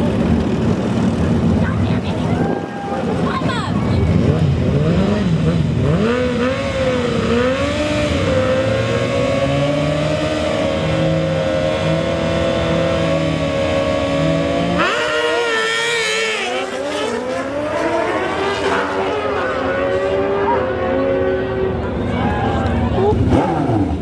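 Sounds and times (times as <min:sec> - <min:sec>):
racing engines revving: 0:00.0 - 0:24.0.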